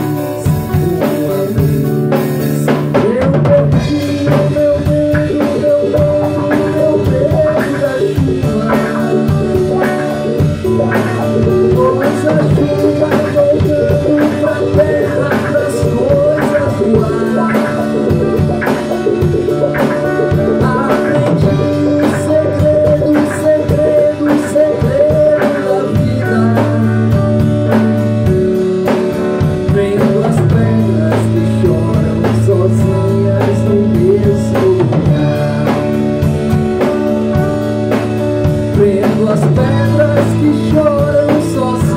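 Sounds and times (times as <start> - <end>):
drum kit beat: 0.0 - 41.9
guitar: 0.0 - 41.9
person singing: 0.0 - 41.9.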